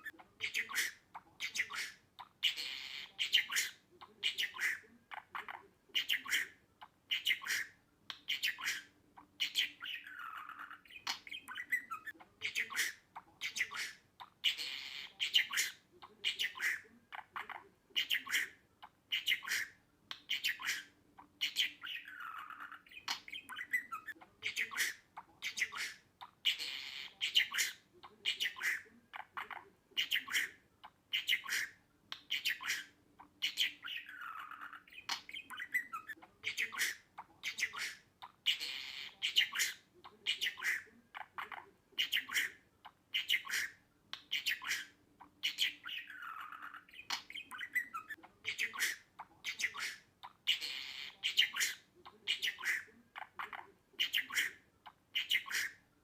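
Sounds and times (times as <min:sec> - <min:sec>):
budgerigar chirping and squawking: 0:00.0 - 0:55.9.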